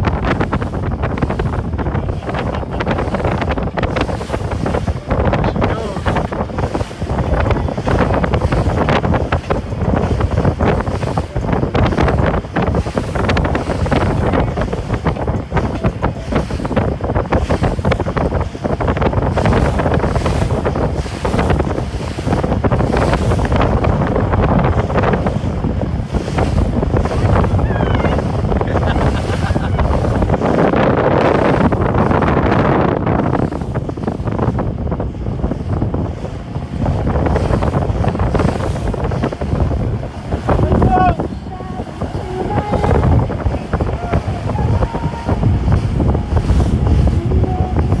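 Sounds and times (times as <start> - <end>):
water rushing in boat wake: 0.0 - 48.0
wind buffeting microphone: 0.0 - 48.0.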